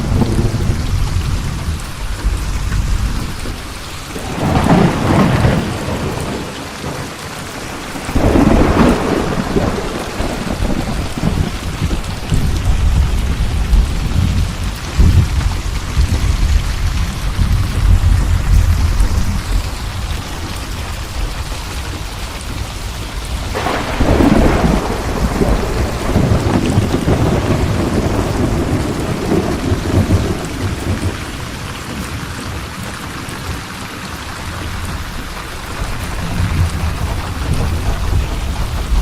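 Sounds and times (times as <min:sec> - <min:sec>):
thunderclap rumbling: 0:00.0 - 0:33.6, 0:34.5 - 0:39.0
low thunder rumbling: 0:00.0 - 0:33.7, 0:34.4 - 0:39.0
heavy rain: 0:00.0 - 0:39.0.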